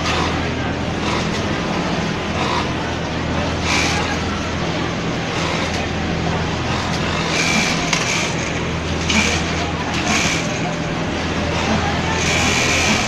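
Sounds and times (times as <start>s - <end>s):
sewing machine motor hum: 0.0s - 13.0s
workshop machinery clatter: 0.0s - 13.0s.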